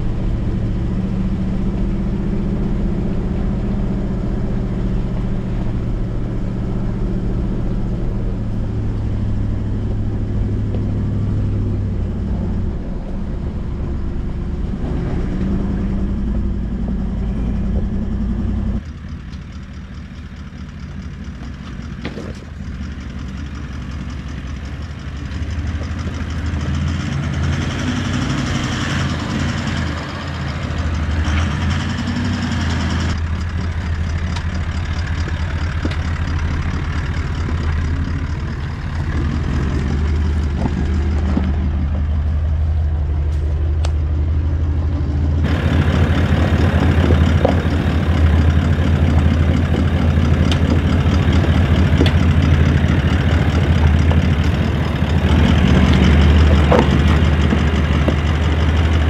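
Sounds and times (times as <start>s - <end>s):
engine running at low revs: 0.0s - 59.0s.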